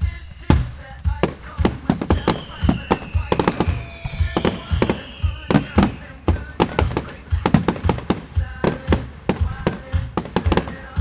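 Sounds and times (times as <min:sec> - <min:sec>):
falling firework whistle: 0:00.0 - 0:09.1
fireworks bangs and booms: 0:00.0 - 0:11.0.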